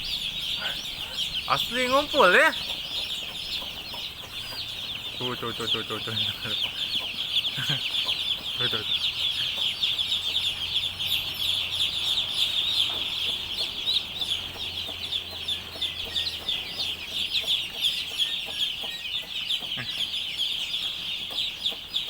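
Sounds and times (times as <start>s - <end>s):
chickens clucking: 0.0s - 22.0s
high chirping: 0.0s - 22.0s.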